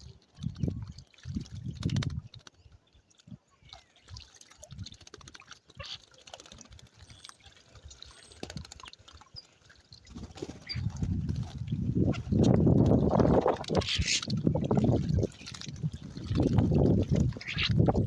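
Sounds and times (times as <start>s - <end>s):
birds splashing in water: 0.0s - 18.0s.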